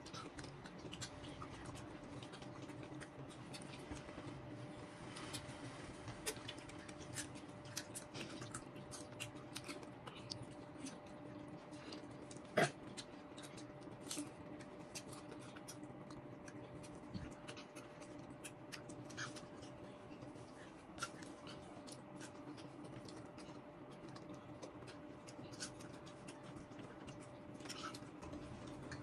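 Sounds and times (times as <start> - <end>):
children chewing juicy fruit: 0.0 - 29.0
faint steady hum: 0.0 - 29.0.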